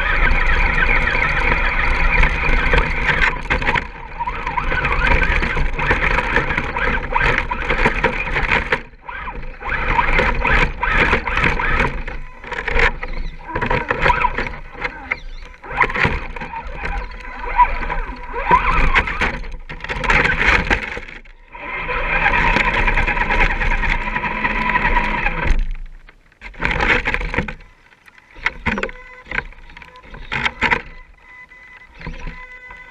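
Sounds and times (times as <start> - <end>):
rc car motor whining: 0.0 - 32.9.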